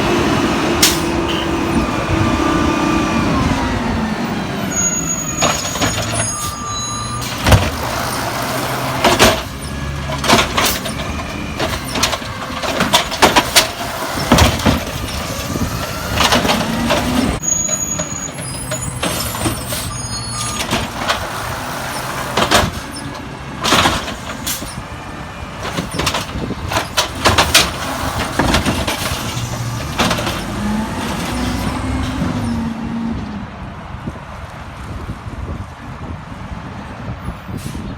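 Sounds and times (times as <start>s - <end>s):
garbage truck diesel engine revving: 0.0s - 33.3s.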